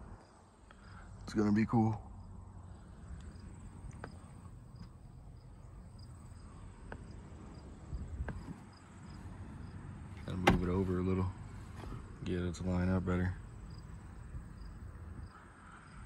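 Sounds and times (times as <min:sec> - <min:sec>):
cricket chirping: 0:01.8 - 0:11.9, 0:12.8 - 0:16.0
handling rumble: 0:02.6 - 0:15.8.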